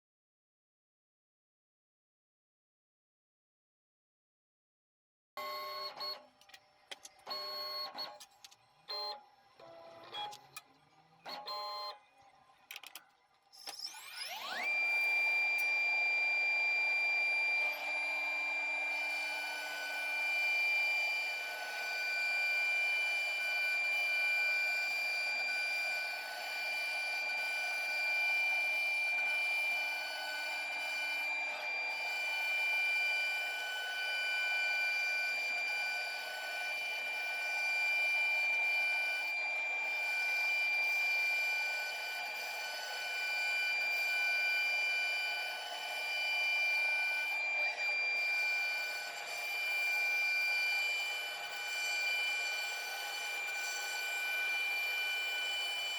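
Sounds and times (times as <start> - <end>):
cnc router spindle whine: 5.4 - 55.9.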